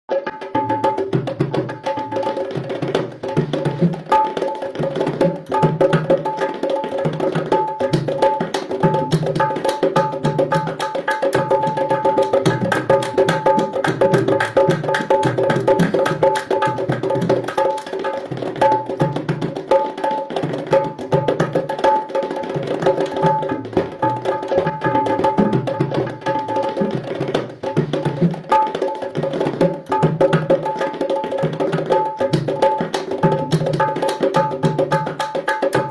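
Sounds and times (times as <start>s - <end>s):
fast dhol drum beat: 0.1s - 35.9s.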